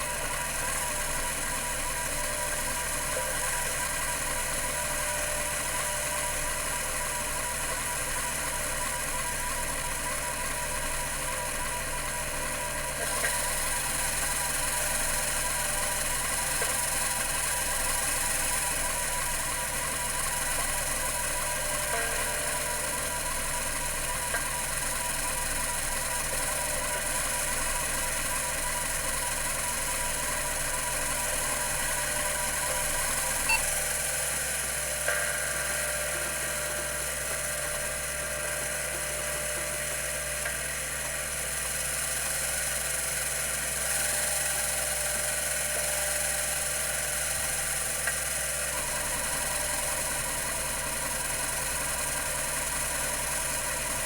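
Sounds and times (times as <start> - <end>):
hard drive whirring and whining: 0.0 - 54.0.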